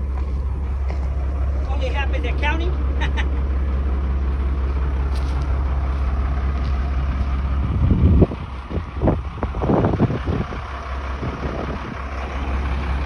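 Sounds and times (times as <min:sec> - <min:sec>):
heavy vehicle engine humming: 0:00.0 - 0:13.0.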